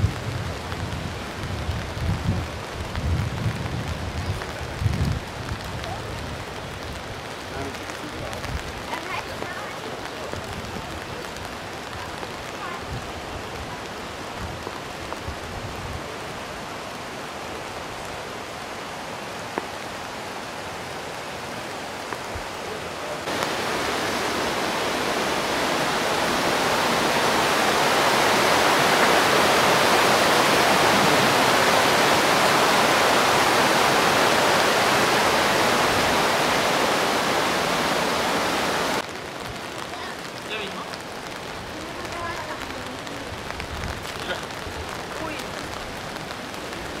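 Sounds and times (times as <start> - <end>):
fast stream rushing: 0.0 - 47.0
rain on cobbled streets: 0.0 - 47.0.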